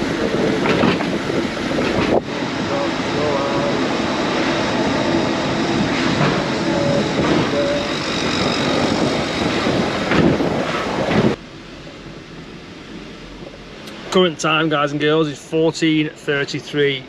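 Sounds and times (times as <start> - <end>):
vehicle travel noise: 0.0 - 17.0.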